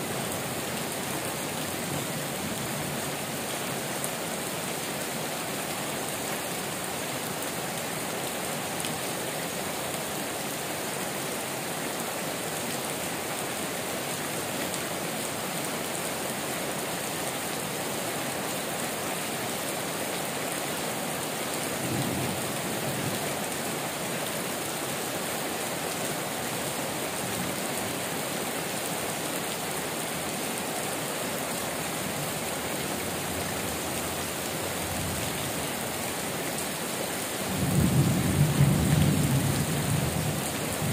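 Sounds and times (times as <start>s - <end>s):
heavy rain on metal roofs: 0.0s - 40.9s.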